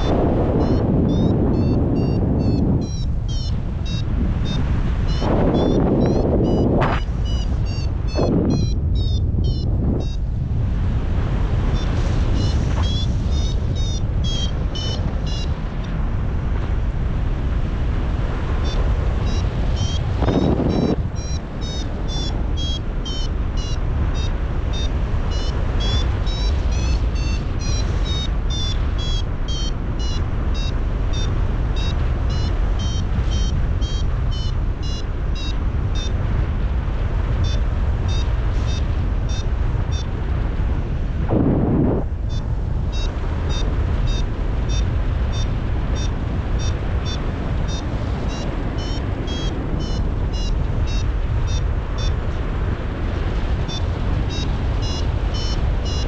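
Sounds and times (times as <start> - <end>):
variometer beeping: 0.0 - 10.2, 11.7 - 16.0, 18.6 - 36.2, 37.4 - 40.2, 41.3 - 52.6, 53.6 - 56.0
wind on microphone: 0.0 - 56.0.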